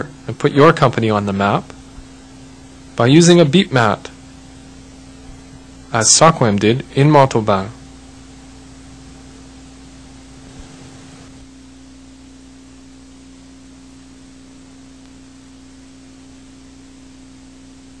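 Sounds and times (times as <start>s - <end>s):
constant hiss: 0.0s - 18.0s
low pure electronic tone: 0.0s - 18.0s.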